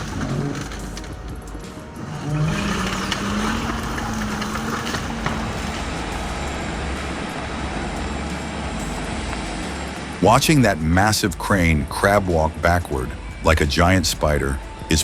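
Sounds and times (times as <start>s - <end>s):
machine noise: 0.0s - 12.2s
heavy vehicle engine drone: 0.0s - 15.0s.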